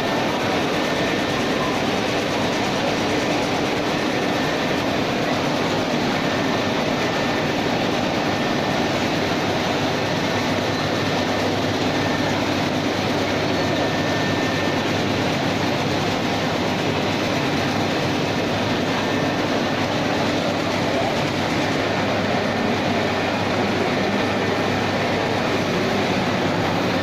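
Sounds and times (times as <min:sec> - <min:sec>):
printing machine whirring: 0:00.0 - 0:27.0.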